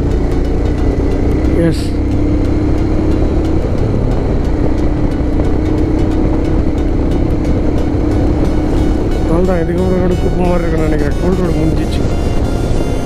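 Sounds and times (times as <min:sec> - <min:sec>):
motorcycle engine cruising: 0:00.0 - 0:13.0
wind and road rumble: 0:00.0 - 0:13.0.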